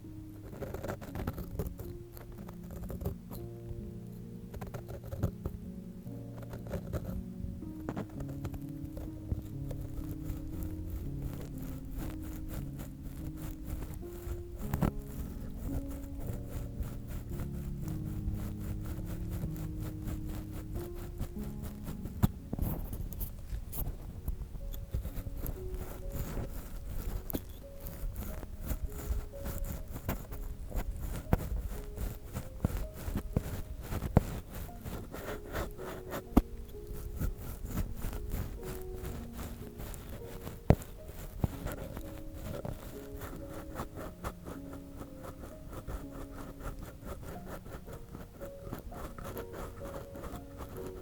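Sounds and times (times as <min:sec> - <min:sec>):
ear pick scraping in microphone: 0:00.0 - 0:51.0
soft background music: 0:00.0 - 0:51.0.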